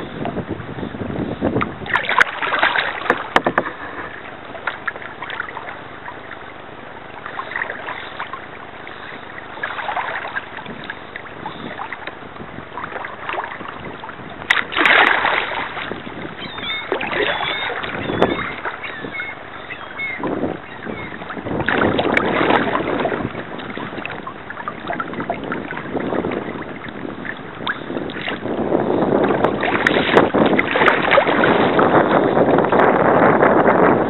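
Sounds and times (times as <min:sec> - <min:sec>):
kayak paddle splashing in water: 0:01.5 - 0:33.0.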